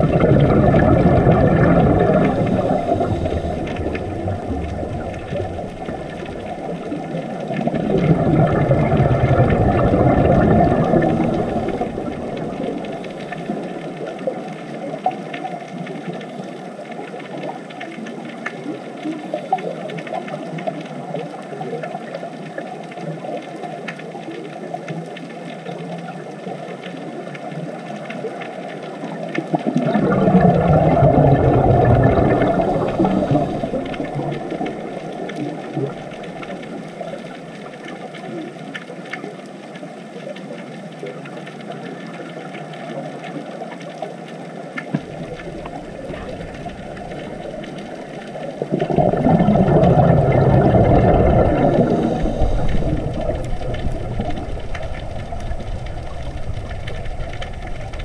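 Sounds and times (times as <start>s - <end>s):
muffled underwater wash: 0.0s - 58.0s.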